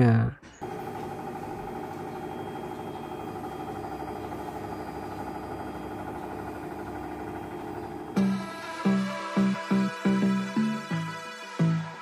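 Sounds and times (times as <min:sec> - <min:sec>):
washing machine tones: 0:00.5 - 0:11.9
washing machine motor hum: 0:00.6 - 0:11.1.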